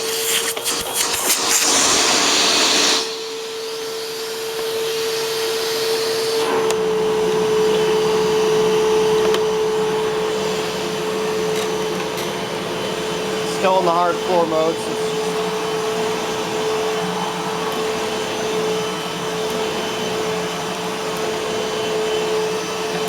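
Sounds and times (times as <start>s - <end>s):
vacuum cleaner motor whine: 0.0s - 23.0s.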